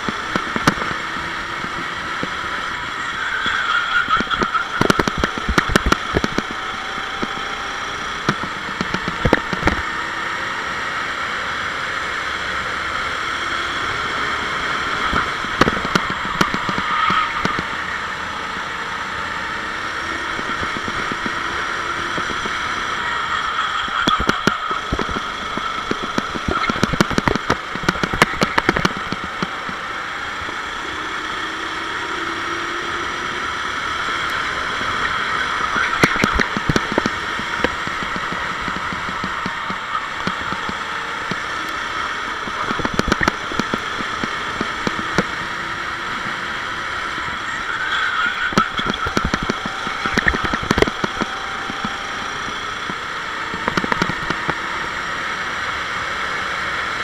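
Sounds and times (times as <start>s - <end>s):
kart engine droning: 0.0s - 57.0s.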